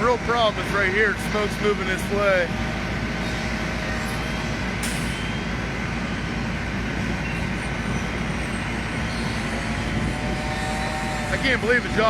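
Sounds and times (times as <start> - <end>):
heavy truck engines droning: 0.0 - 12.0.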